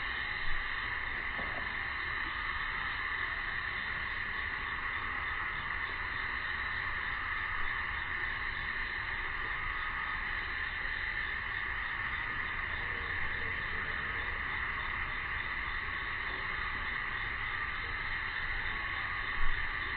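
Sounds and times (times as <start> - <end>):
cicadas buzzing: 0.0 - 19.9.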